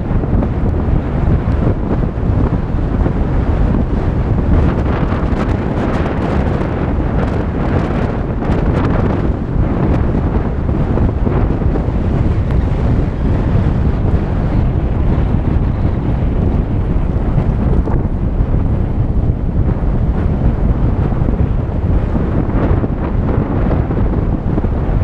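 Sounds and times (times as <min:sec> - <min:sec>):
car driving on dirt road: 0:00.0 - 0:25.0
wind buffeting microphone: 0:00.0 - 0:25.0.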